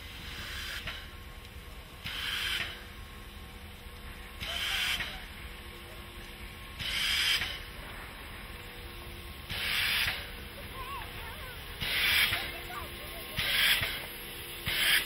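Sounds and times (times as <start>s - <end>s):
hissing steam chuffs: 0.0s - 15.0s.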